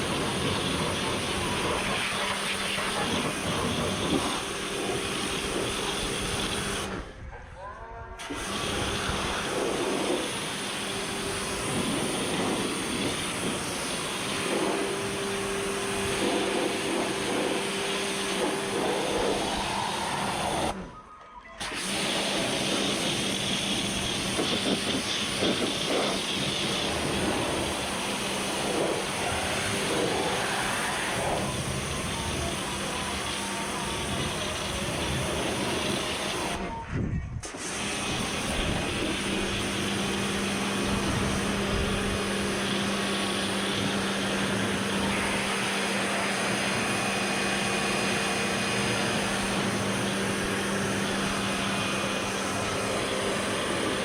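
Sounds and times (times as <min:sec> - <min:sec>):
water jet hissing: 0:00.0 - 0:07.0, 0:08.2 - 0:20.8, 0:21.6 - 0:36.6, 0:37.5 - 0:54.0
pressure washer motor hum: 0:00.0 - 0:07.2, 0:08.2 - 0:20.9, 0:21.6 - 0:36.8, 0:37.4 - 0:54.0.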